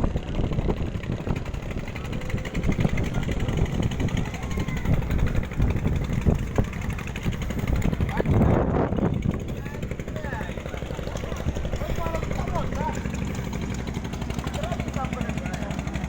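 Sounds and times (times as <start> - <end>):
small engine rumbling: 0.0 - 16.0.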